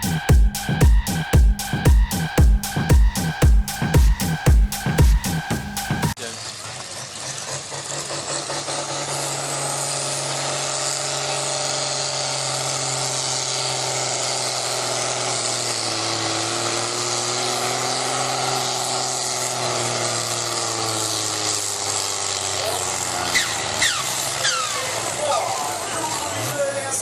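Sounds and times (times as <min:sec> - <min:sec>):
tractor engine running hard: 0:00.0 - 0:27.0.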